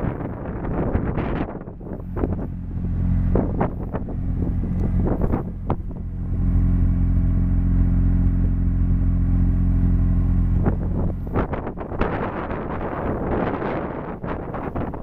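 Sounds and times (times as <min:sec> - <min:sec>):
rotary engine idling: 0:00.0 - 0:15.0.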